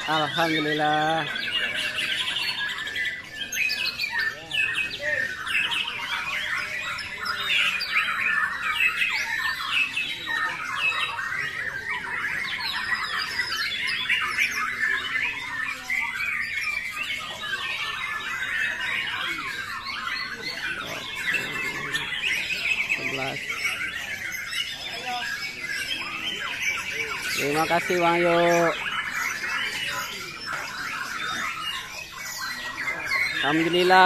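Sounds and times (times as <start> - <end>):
caged songbirds singing: 0.0 - 34.0.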